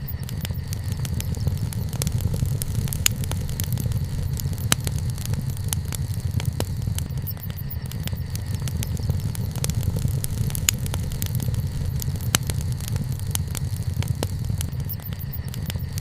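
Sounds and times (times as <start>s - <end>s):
low roar of flames: 0.0s - 16.0s
wood crackling and popping: 0.0s - 16.0s.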